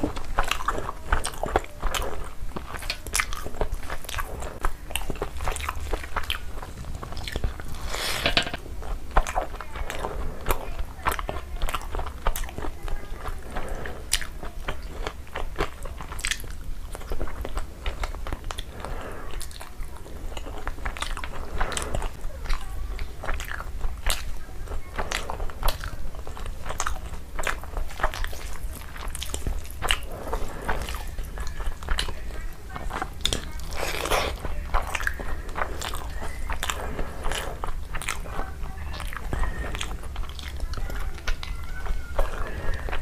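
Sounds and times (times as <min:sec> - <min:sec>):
person chewing with lip smacking: 0:00.0 - 0:43.0.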